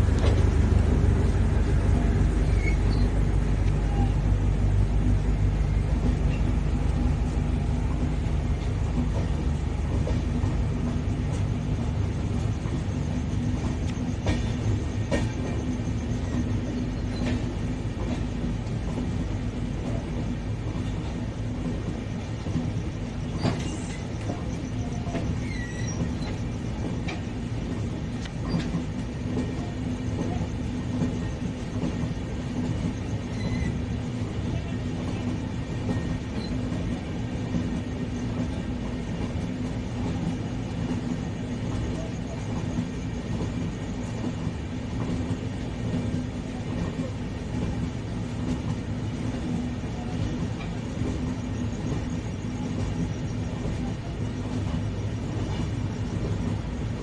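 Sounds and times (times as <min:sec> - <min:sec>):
wheels rumbling on track: 0:00.0 - 0:57.0.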